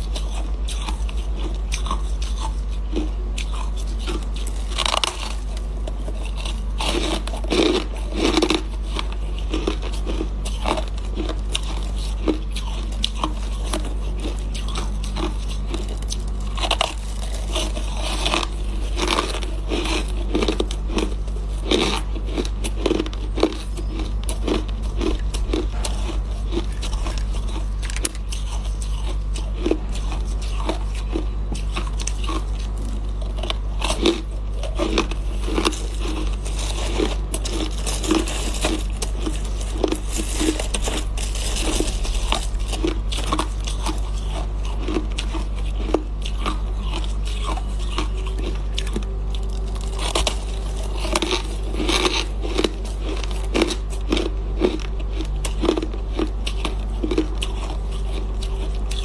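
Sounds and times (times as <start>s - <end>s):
ice crunching when chewed: 0.0s - 59.0s
steady low hum: 0.0s - 59.0s.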